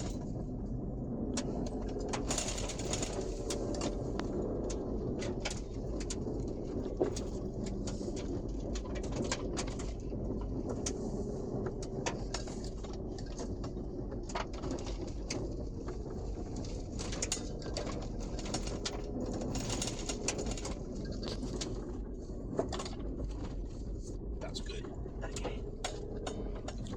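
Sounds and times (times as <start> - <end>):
engine and road rumble: 0.0 - 26.9.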